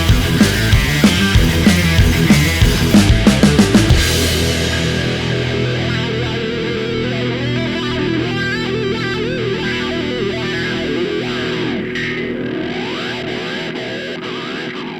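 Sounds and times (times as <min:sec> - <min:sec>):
distorted electric guitar music: 0:00.0 - 0:14.9.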